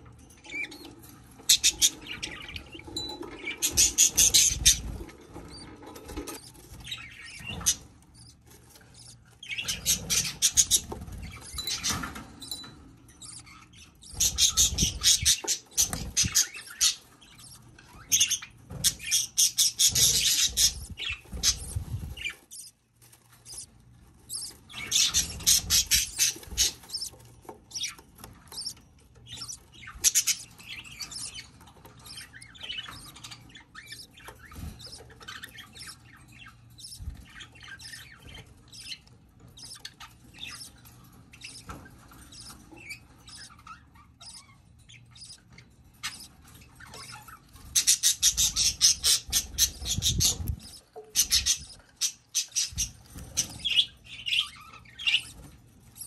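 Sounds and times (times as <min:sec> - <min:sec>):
budgie squawks and chirps: 0:01.5 - 0:08.4, 0:09.0 - 0:12.6, 0:13.2 - 0:22.8, 0:24.3 - 0:39.0, 0:41.4 - 0:55.4.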